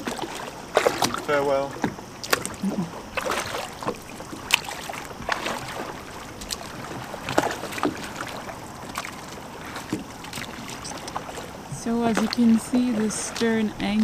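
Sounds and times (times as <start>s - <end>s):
oars splashing: 0.0s - 14.0s.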